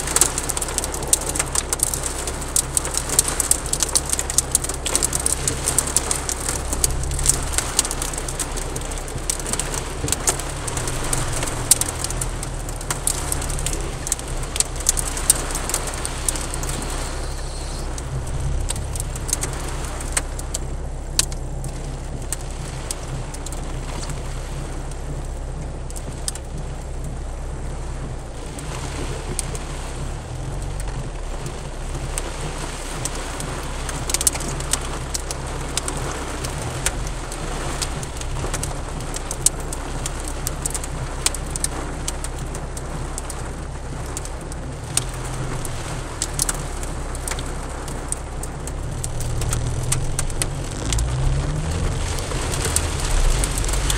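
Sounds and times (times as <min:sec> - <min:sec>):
car engine humming: 0:00.0 - 0:53.9
heavy rain on car roof: 0:00.0 - 0:53.9.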